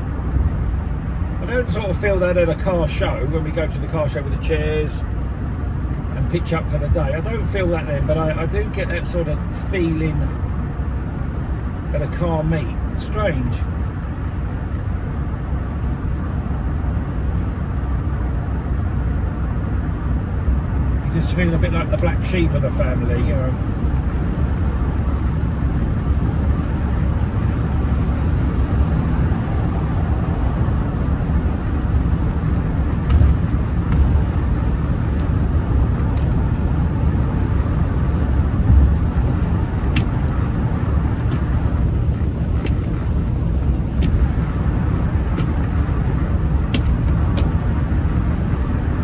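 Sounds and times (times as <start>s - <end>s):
car cabin road and engine rumble: 0.0s - 49.0s.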